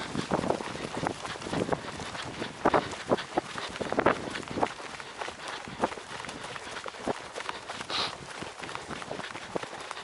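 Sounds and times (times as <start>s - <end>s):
footsteps running on ground: 0.0s - 10.0s.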